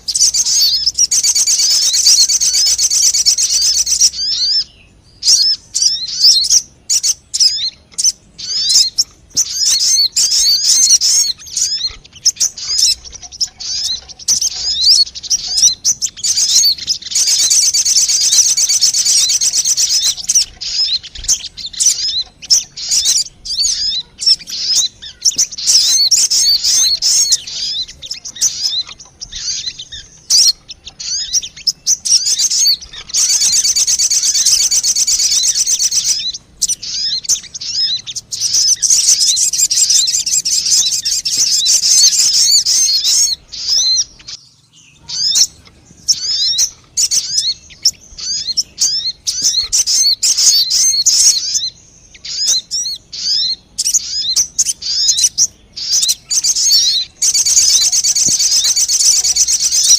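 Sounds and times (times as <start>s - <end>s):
bird chirping: 0.0s - 59.9s
bird trilling: 0.0s - 59.9s.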